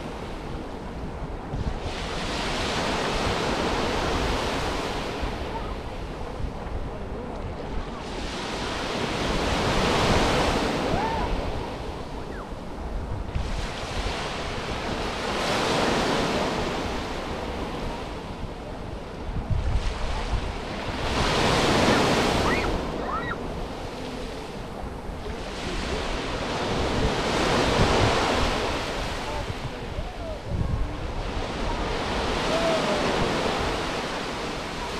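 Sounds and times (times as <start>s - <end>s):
waves washing up beach: 0.0s - 34.9s
wind buffeting microphone: 0.0s - 34.9s.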